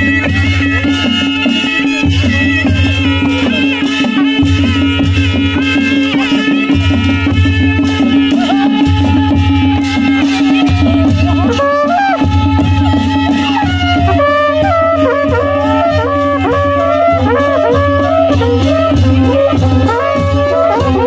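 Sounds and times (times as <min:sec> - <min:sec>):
cymbals clashing: 0:00.0 - 0:21.0
drums beating: 0:00.0 - 0:21.0
shehnai melody: 0:00.0 - 0:21.0.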